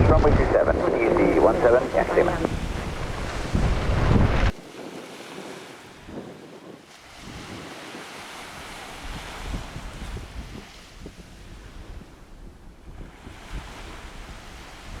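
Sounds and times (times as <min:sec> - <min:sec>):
low rumbling gusts: 0:00.0 - 0:15.0
wind buffeting microphone: 0:00.0 - 0:15.0.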